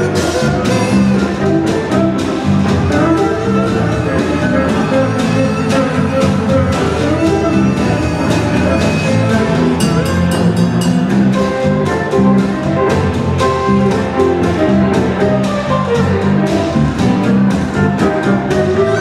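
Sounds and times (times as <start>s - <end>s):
bass guitar: 0.0s - 19.0s
snare and washtub beat: 0.0s - 19.0s.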